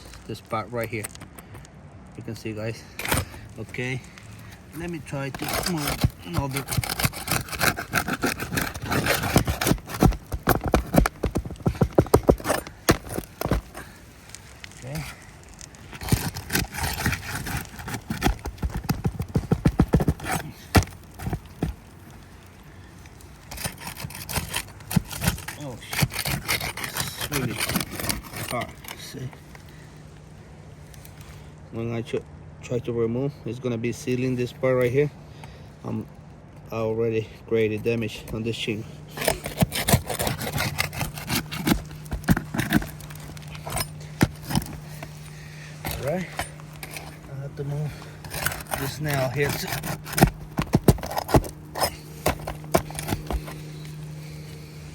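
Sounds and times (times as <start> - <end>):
shingles scraping and crackling: 0.0 - 31.4, 38.0 - 54.9.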